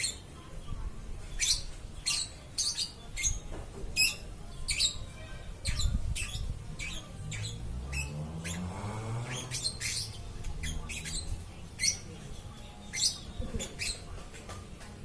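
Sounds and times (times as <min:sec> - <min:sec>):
bird chirping and squawking: 0:01.3 - 0:14.4.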